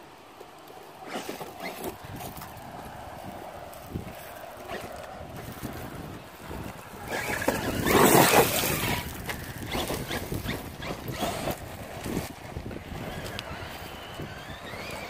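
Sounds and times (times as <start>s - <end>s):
rc truck tyres on loose dirt: 0.0s - 15.0s.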